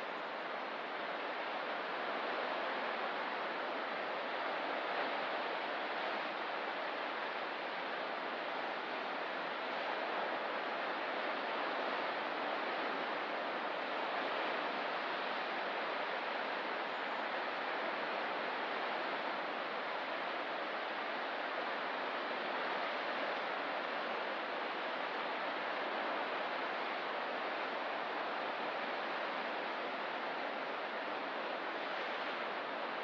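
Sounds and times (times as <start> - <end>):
waves washing on shore: 0.0 - 33.0.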